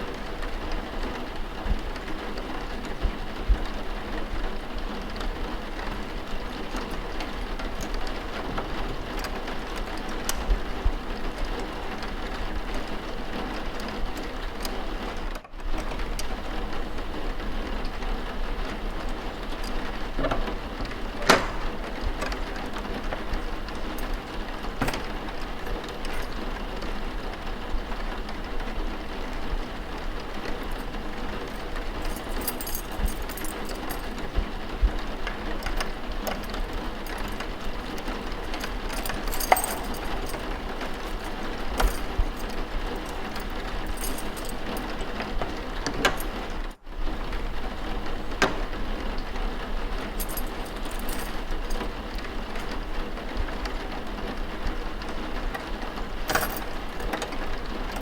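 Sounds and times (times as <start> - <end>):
steady rain: 0.0 - 32.1, 33.0 - 39.3, 44.6 - 50.2, 51.4 - 58.0
light clicks taps and rattles: 5.2 - 16.4, 17.8 - 27.0, 29.2 - 46.8, 48.1 - 58.0.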